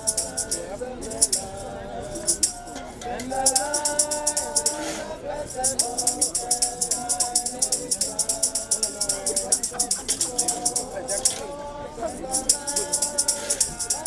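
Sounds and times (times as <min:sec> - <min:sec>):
people singing together: 0:00.0 - 0:14.0
shaker beat: 0:00.0 - 0:14.0.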